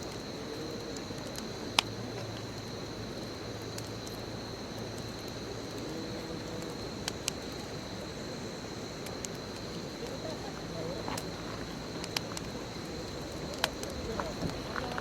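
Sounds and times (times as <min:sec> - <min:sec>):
high insect trill: 0:00.0 - 0:15.0
wood fire crackling: 0:00.0 - 0:15.0.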